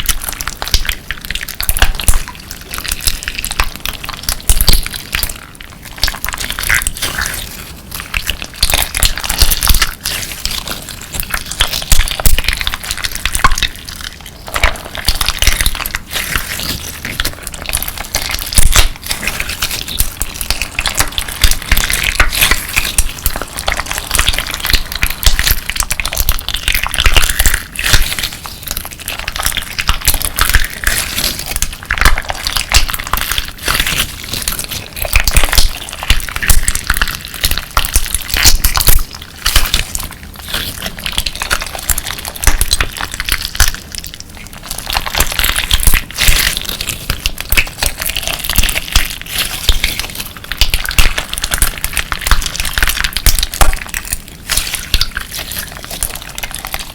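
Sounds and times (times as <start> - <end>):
crunchy slime crackling: 0.0 - 56.9.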